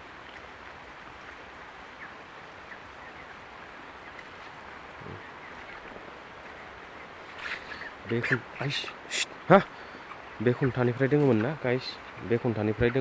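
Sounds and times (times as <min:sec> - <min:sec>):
chickens murmuring: 0:00.0 - 0:13.0
chicks cheeping: 0:01.2 - 0:13.0.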